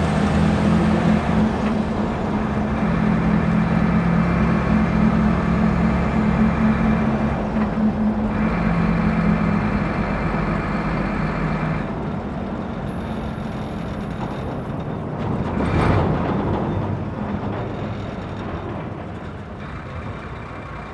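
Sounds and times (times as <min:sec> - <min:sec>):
road noise: 0:00.0 - 0:20.9
truck engine drone: 0:00.0 - 0:20.9.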